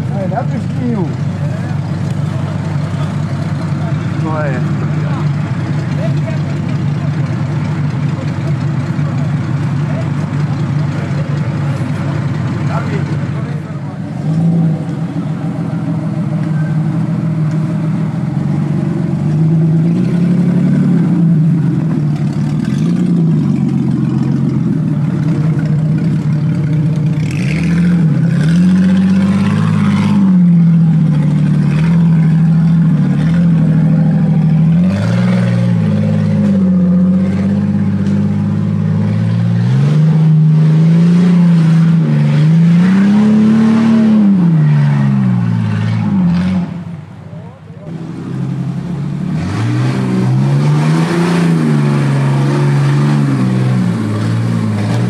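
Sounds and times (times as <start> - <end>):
off-road engine revving: 0.0 - 55.0.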